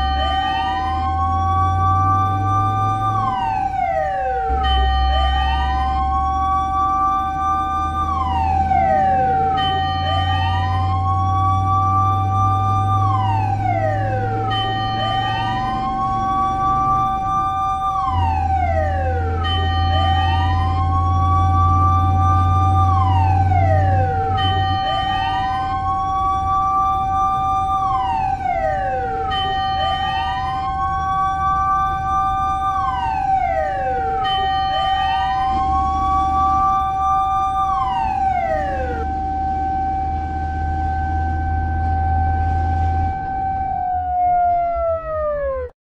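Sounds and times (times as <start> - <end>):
fire engine siren wailing: 0.0 - 45.8.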